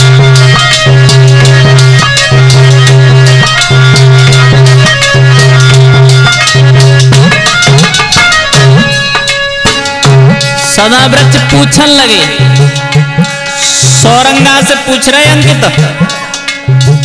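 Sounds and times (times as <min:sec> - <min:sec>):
fast hand drum strokes: 0:00.0 - 0:17.0
harmonium holding low note: 0:00.0 - 0:17.0
rattling percussion: 0:00.0 - 0:17.0.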